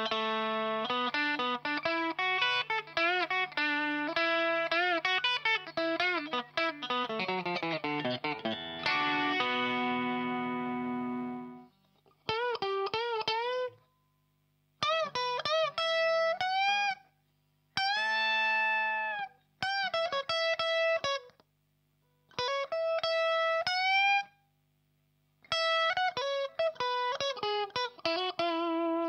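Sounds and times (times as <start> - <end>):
electric guitar lead phrases: 0.0 - 13.8, 14.8 - 17.0, 17.8 - 21.3, 22.3 - 24.4, 25.5 - 29.0
faint amp hum: 0.0 - 29.0.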